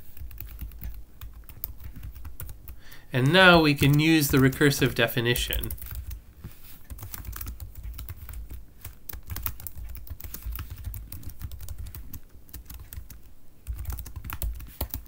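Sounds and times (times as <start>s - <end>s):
computer keyboard typing: 0.0s - 6.2s, 6.9s - 15.0s.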